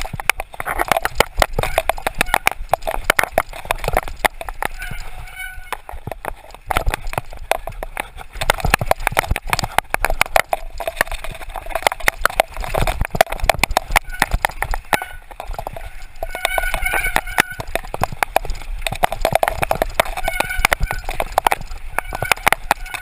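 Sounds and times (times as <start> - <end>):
mountain bike rattling over trail: 0.0 - 23.0.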